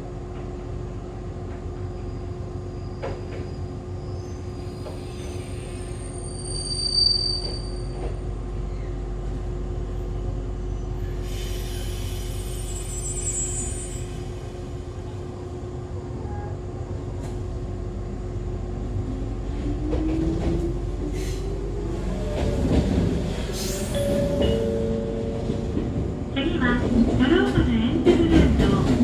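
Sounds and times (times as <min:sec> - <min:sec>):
train equipment hum: 0:00.0 - 0:06.2, 0:07.4 - 0:29.0.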